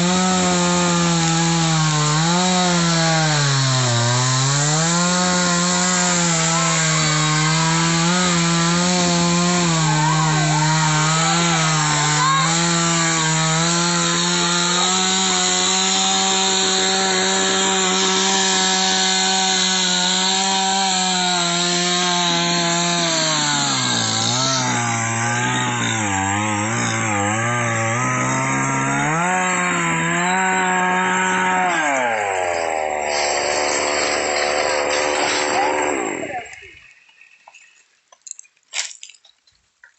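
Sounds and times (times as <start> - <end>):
chainsaw cutting wood: 0.0 - 39.4.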